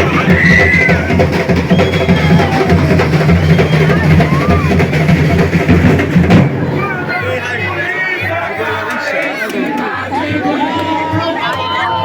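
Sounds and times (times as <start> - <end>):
drum-led percussion music: 0.0 - 12.0
voices calling: 0.0 - 12.0.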